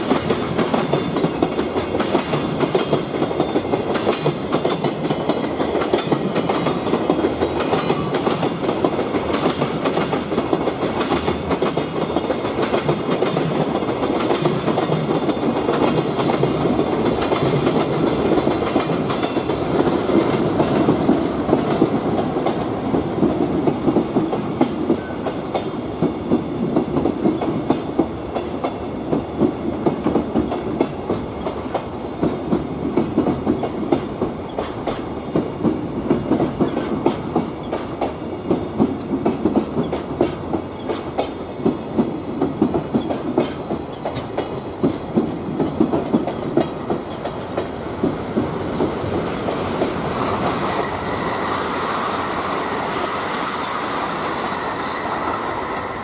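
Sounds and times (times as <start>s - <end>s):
train wheels clattering over rail joints: 0.0s - 51.8s.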